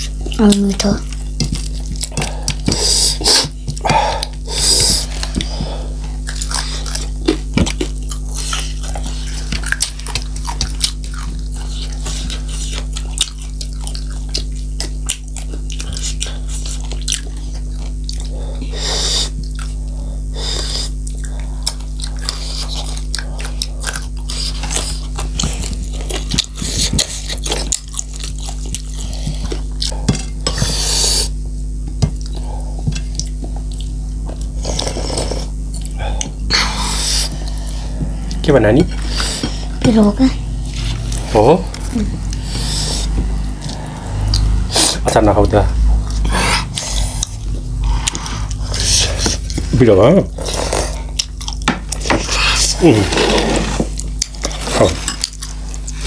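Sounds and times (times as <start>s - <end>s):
chewing and mouth noises: 0.0s - 56.0s
low electrical hum: 0.0s - 56.0s.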